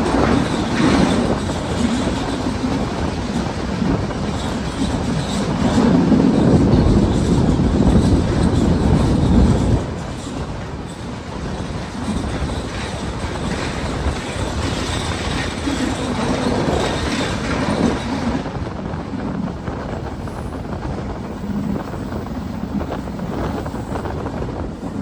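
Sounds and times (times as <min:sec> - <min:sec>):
train running on tracks: 0:00.0 - 0:25.0.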